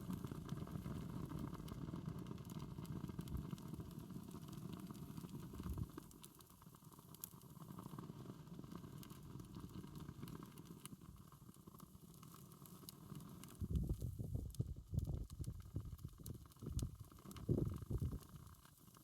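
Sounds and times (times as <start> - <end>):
low rumble of flame: 0.0 - 19.0
wood fire crackling: 0.0 - 19.0.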